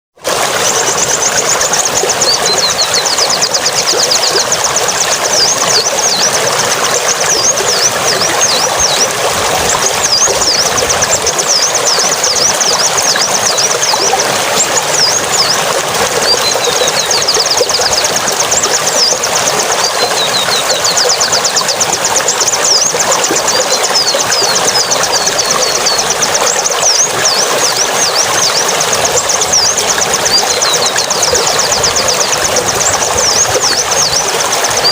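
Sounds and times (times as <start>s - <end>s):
running water rushing: 0.2s - 34.9s
songbird chirping and trilling: 0.7s - 34.9s.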